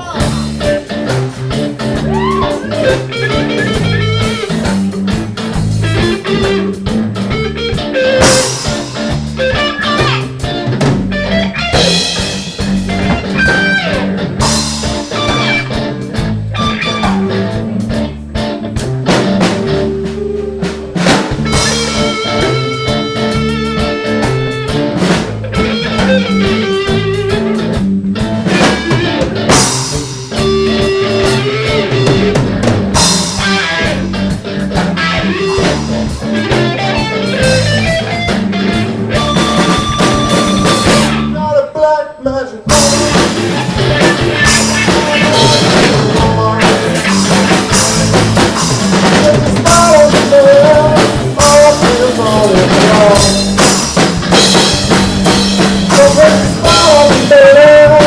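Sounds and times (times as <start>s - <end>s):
drum kit beat: 0.0s - 41.4s, 42.7s - 58.0s
blues guitar lines: 0.0s - 58.0s.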